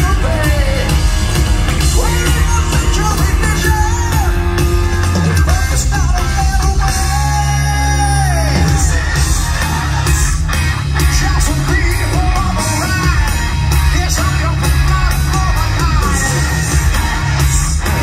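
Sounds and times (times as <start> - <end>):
male singer: 0.0 - 1.2, 1.8 - 9.9, 11.0 - 18.0
drums: 0.0 - 18.0
electric guitars: 0.0 - 18.0.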